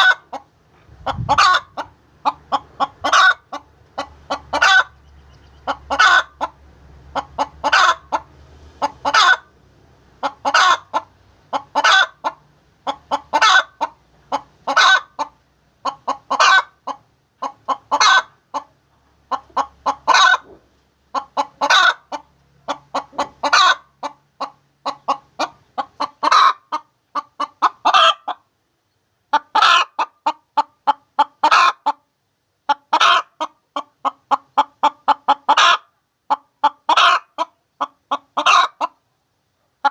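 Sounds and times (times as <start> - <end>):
hen cackling: 0.0 - 9.5, 10.2 - 28.5, 29.3 - 32.1, 32.7 - 39.0.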